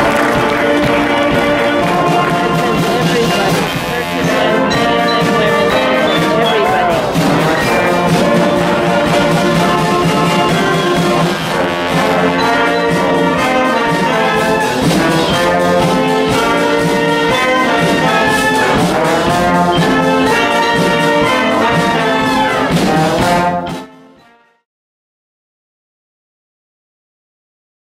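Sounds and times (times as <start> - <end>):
brass band music: 0.0 - 24.7.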